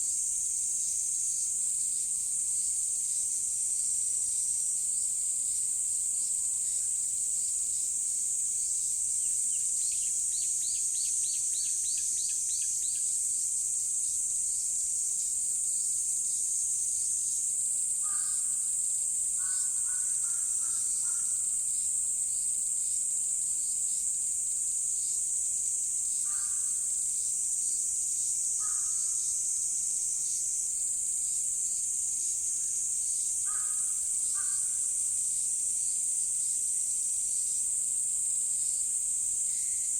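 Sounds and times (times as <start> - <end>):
insects high-pitched chorus: 0.0 - 39.9.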